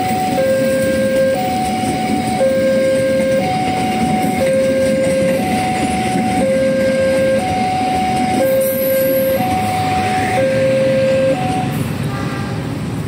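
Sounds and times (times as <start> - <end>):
two-tone electronic warning alarm: 0.0 - 11.8
passing train rumble: 0.0 - 13.0.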